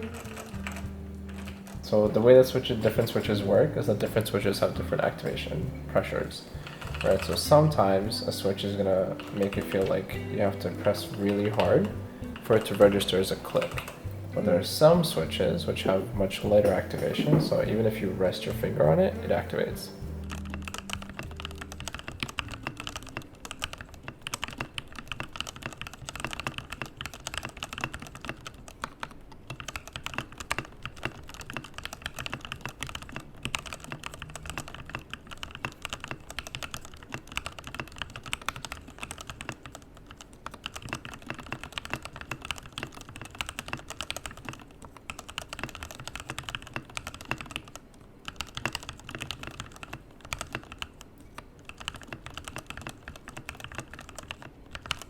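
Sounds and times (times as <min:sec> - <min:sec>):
mechanical keyboard typing: 0:00.0 - 0:55.0.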